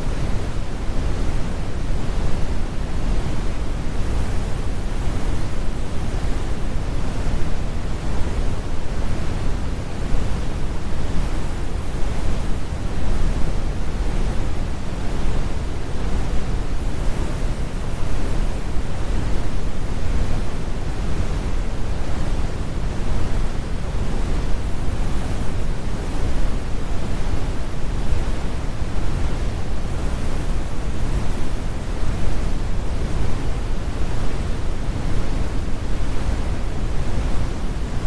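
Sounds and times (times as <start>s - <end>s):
brown noise: 0.0s - 38.0s.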